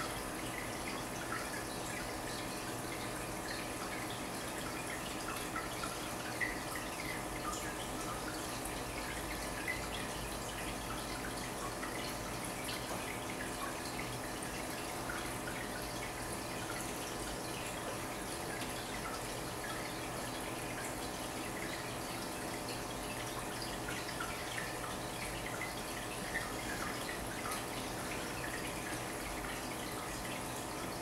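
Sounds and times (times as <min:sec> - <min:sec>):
aquarium pump hum: 0:00.0 - 0:31.0
water trickling and dripping: 0:00.0 - 0:31.0.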